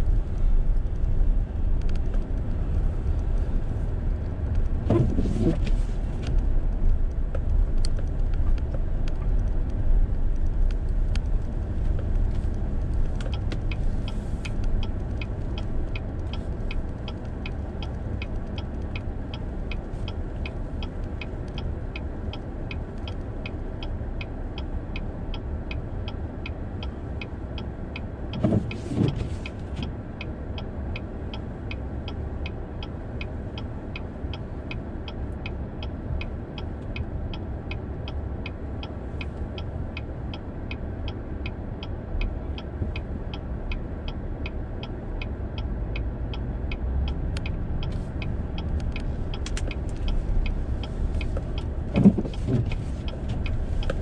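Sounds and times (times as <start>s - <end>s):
turn signal ticking: 0.0s - 54.0s.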